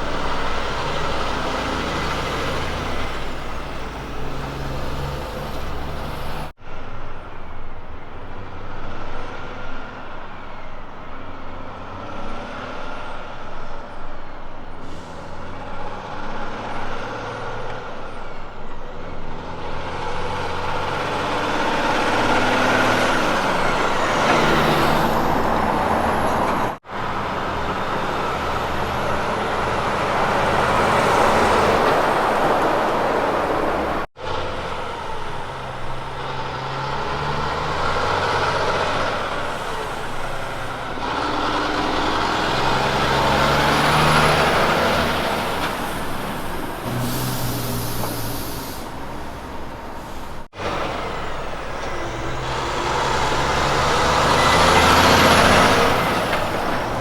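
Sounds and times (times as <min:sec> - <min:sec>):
trucks driving past: 0:00.0 - 0:57.0
tyre and road noise: 0:00.0 - 0:57.0.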